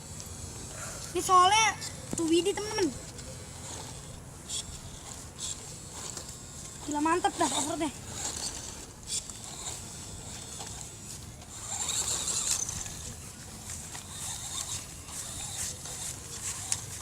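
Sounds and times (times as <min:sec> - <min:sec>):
toy car electric motor whirring: 0:00.0 - 0:17.0.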